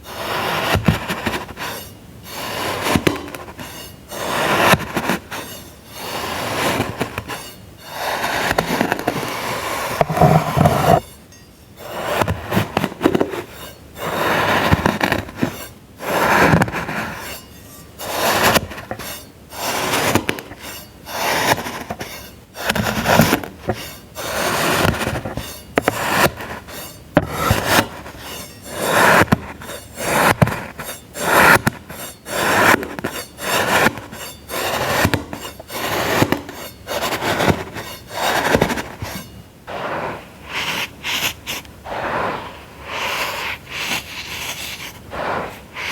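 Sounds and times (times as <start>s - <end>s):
tool scraping packed sand: 0.0s - 45.9s.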